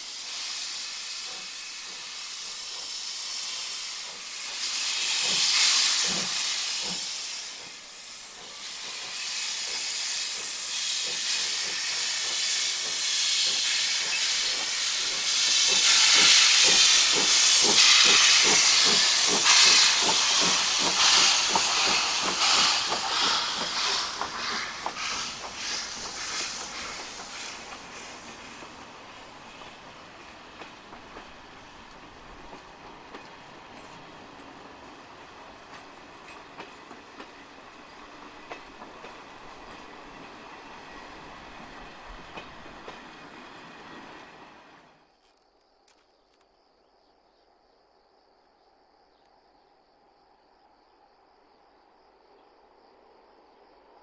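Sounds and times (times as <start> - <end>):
steam hissing: 0.0 - 44.9
steam locomotive chuffing: 0.0 - 45.0
train passing: 0.0 - 45.1.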